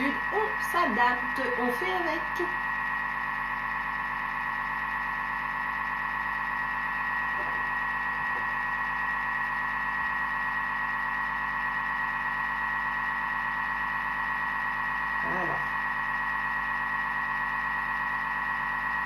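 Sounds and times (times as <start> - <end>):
food processor motor whining: 0.0 - 19.0.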